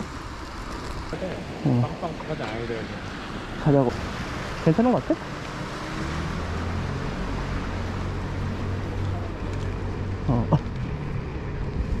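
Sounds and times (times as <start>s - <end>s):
wind and road rush: 0.0s - 12.0s.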